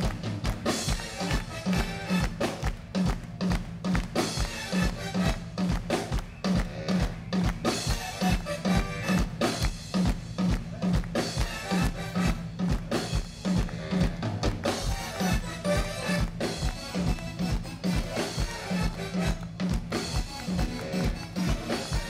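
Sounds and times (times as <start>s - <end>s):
bass guitar line: 0.0s - 22.0s
drum kit beat: 0.0s - 22.0s
funk band playing: 0.0s - 22.0s.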